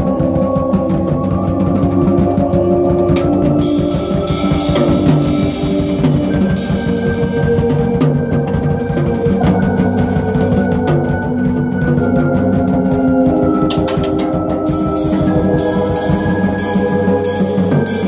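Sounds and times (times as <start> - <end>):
cymbals washing: 0.0 - 18.0
drum kit: 0.0 - 18.0
held chords: 0.0 - 18.0
low bass line: 0.0 - 18.0.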